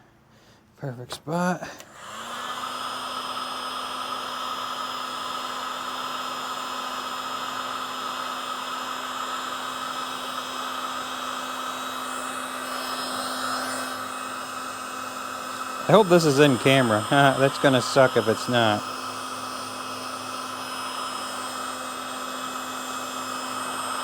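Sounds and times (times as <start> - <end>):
heat gun blowing with fan hum: 0.5 - 24.0.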